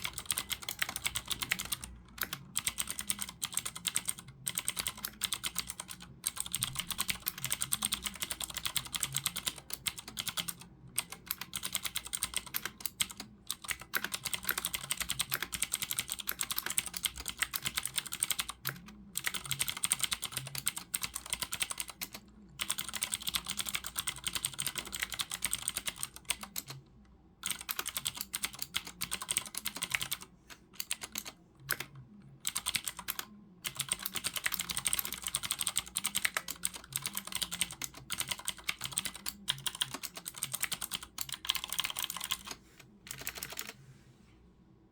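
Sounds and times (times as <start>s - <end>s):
mechanical keyboard typing: 0.0s - 26.8s, 27.4s - 43.8s.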